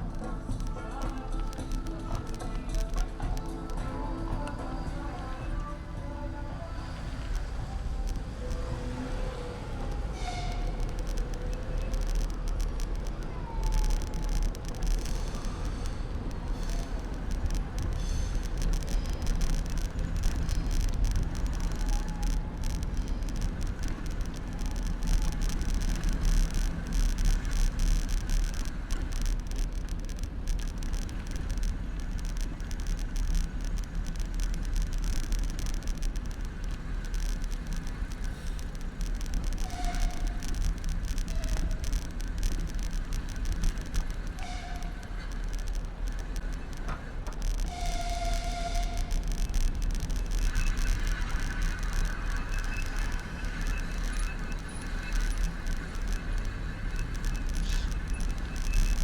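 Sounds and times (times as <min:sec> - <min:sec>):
wind and tyres rumbling on road: 0:00.0 - 0:59.0.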